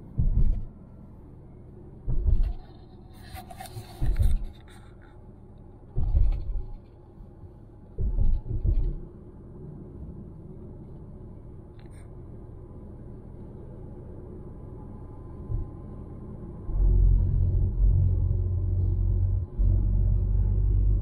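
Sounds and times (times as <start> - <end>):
car road rumble: 0.0 - 21.0.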